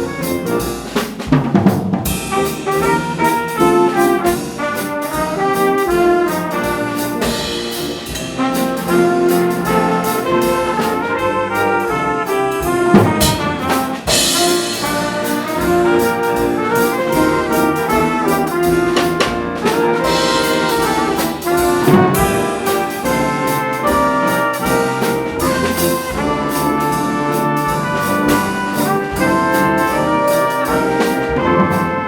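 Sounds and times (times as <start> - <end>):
drum strikes: 0.0 - 32.0
jazz ensemble playing: 0.0 - 32.0.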